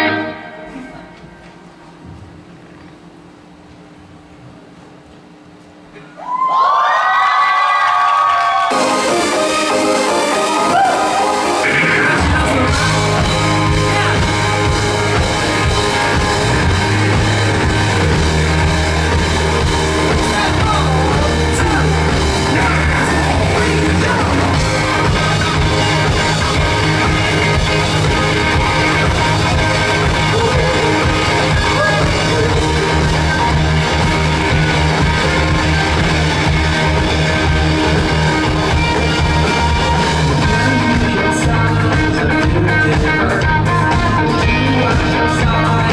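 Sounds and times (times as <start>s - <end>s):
rock band playing live: 0.0s - 1.4s, 8.6s - 45.9s.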